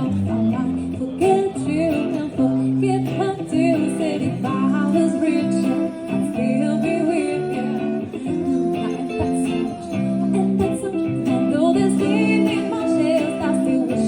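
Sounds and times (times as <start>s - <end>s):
acoustic guitar: 0.0s - 14.0s
person singing: 0.0s - 14.0s.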